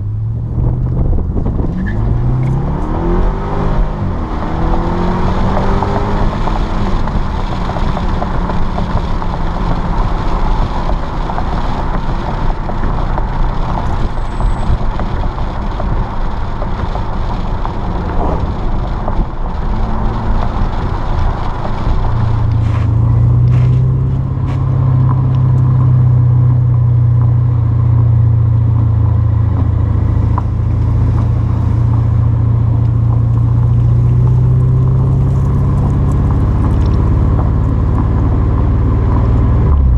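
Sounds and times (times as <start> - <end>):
car exhaust drone while driving: 0.0 - 39.9.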